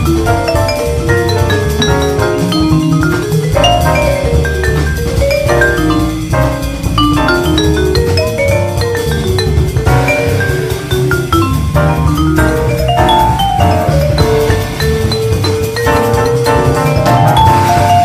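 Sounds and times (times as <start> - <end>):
drums: 0.0 - 18.0
vibraphone played with mallets: 0.0 - 18.0.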